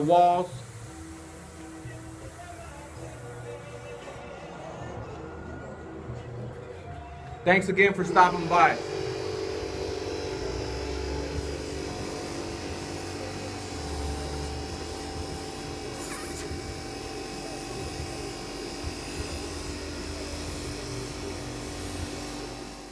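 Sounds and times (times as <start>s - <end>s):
air compressor humming: 0.0s - 4.2s, 7.7s - 22.9s
airbrush spraying hiss: 0.0s - 4.2s, 8.2s - 22.9s.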